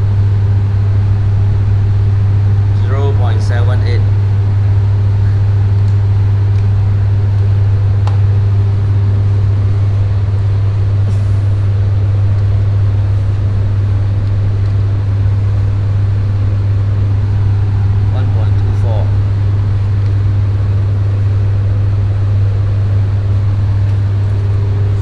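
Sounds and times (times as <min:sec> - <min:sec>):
transformer humming: 0:01.0 - 0:25.0.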